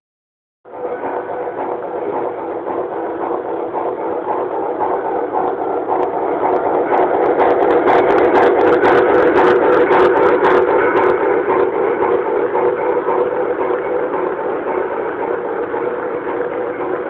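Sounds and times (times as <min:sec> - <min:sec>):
model locomotive running: 0:00.7 - 0:17.0.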